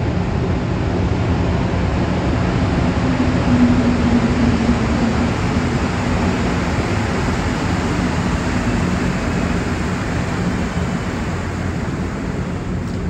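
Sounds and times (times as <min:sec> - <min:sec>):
low drone: 0:00.0 - 0:13.0
metro train running noise: 0:00.0 - 0:13.0.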